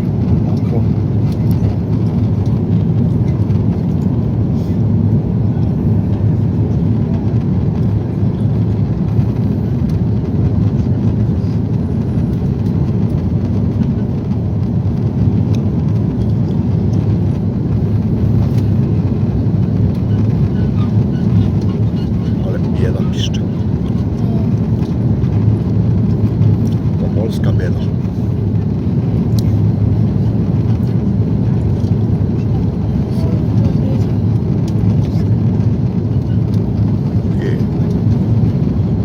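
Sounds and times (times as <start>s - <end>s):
airliner cabin engine rumble: 0.0s - 39.0s.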